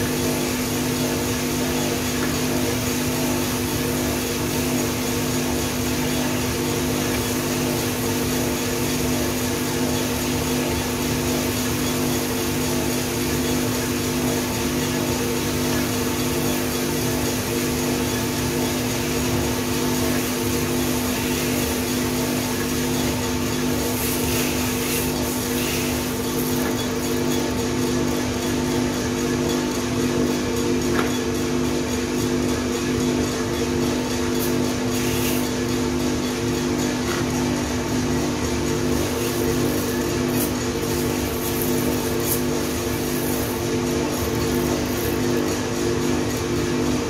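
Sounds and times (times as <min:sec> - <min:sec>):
beans churning in drum: 0:00.0 - 0:30.6, 0:31.3 - 0:47.0
coffee roaster motor humming: 0:00.0 - 0:47.0.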